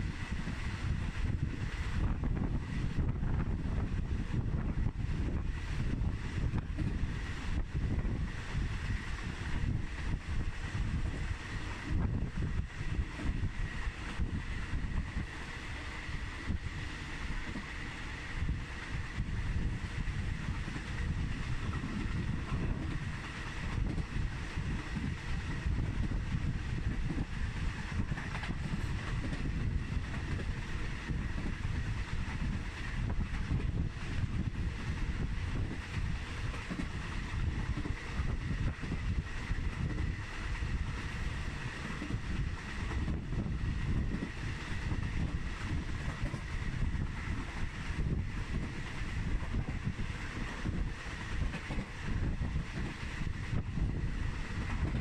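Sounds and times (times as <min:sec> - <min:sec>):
train rumbling on the track: 0:00.0 - 0:55.0
wind buffeting the microphone: 0:00.0 - 0:55.0.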